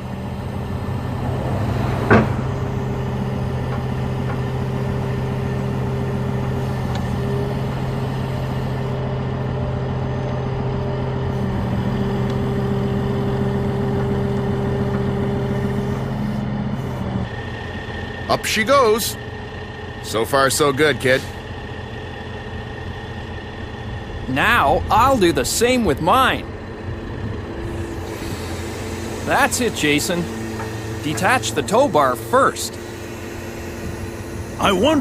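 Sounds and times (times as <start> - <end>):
truck engine running steadily: 0.0 - 35.0.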